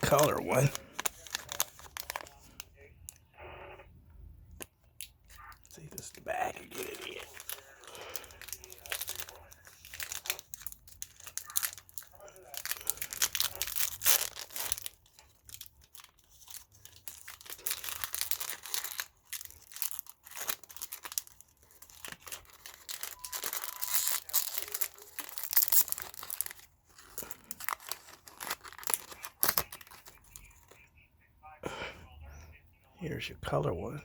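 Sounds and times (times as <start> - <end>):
plastic packaging crinkling: 0.0 - 3.2, 4.6 - 30.9.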